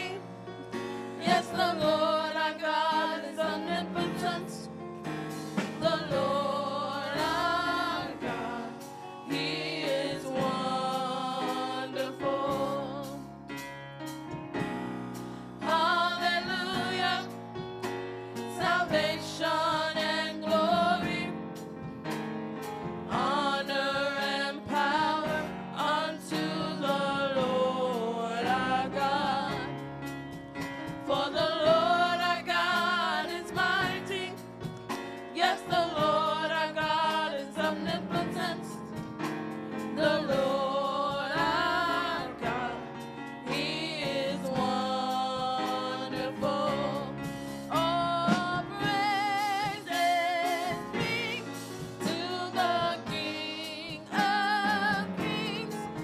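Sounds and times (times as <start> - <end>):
women singing together: 0.0 - 0.2, 1.2 - 4.7, 5.6 - 13.3, 15.6 - 17.4, 18.5 - 21.4, 23.1 - 29.8, 31.0 - 34.4, 35.3 - 38.8, 40.0 - 56.0.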